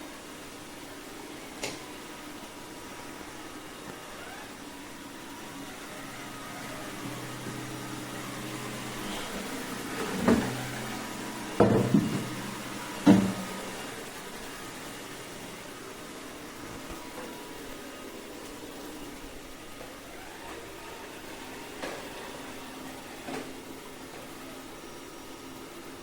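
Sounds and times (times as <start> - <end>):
robot vacuum motor hum: 3.0 - 16.0, 16.6 - 25.3.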